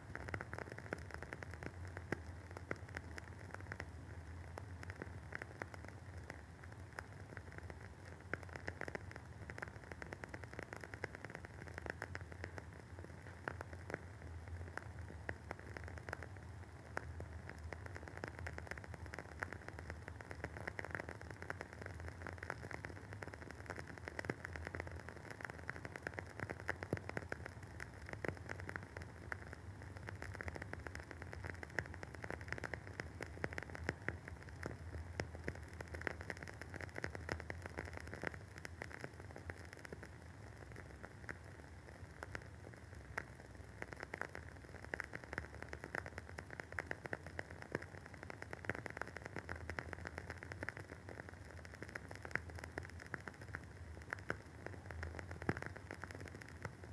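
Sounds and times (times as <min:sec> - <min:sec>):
candle wick crackling: 0:00.0 - 0:56.9.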